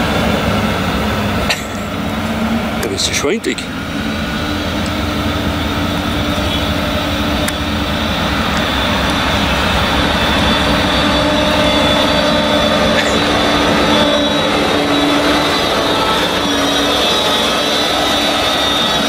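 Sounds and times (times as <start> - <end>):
harvester engine whining: 0.0 - 19.0.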